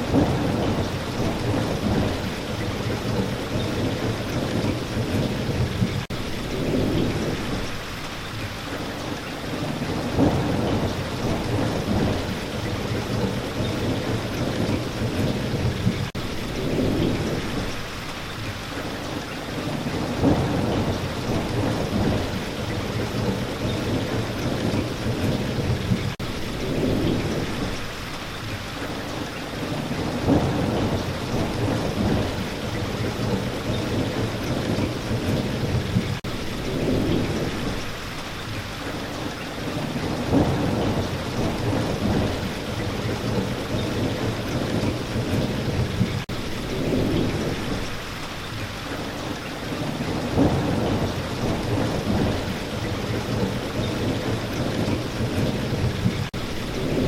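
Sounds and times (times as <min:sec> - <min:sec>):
low rolling thunder: 0:00.0 - 0:08.0, 0:09.4 - 0:18.0, 0:19.5 - 0:28.1, 0:28.8 - 0:38.2, 0:38.9 - 0:48.2, 0:49.0 - 0:57.0
steady rain: 0:00.0 - 0:57.0.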